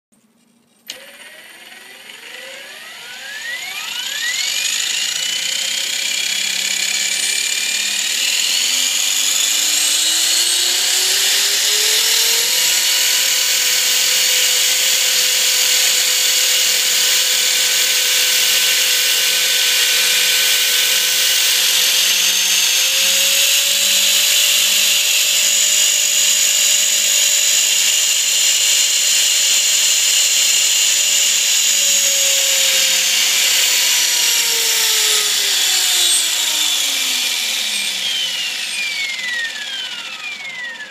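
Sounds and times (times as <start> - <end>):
helicopter motor whine: 0.9 - 40.9.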